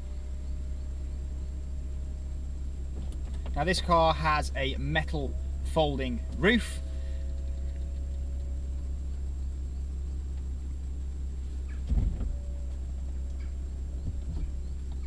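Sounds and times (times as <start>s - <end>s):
folding roof mechanism rumbling: 0.0s - 15.0s.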